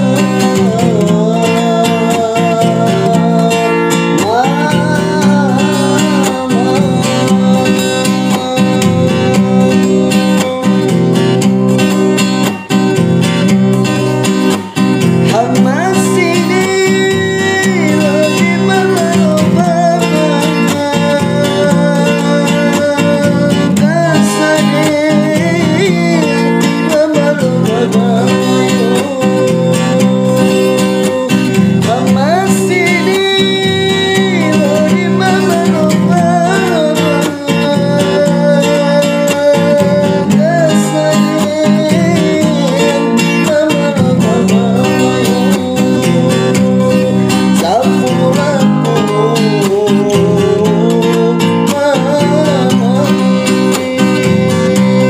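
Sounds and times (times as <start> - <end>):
acoustic guitar strumming: 0.0 - 55.0
person singing: 0.0 - 55.0.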